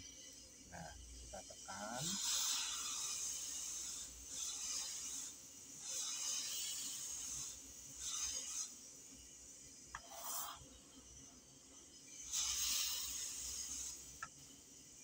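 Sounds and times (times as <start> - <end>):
steam iron hissing: 0.0 - 15.0.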